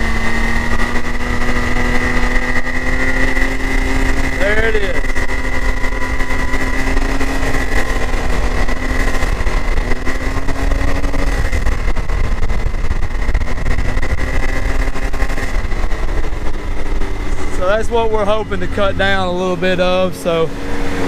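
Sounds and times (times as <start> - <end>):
engine running at high revs: 0.0 - 21.0.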